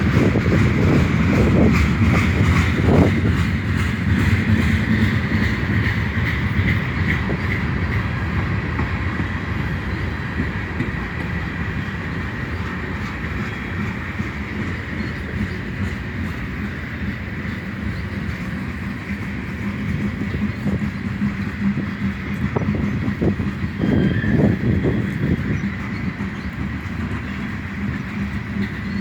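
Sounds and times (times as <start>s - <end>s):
freight train wheel rumble: 0.0s - 29.0s.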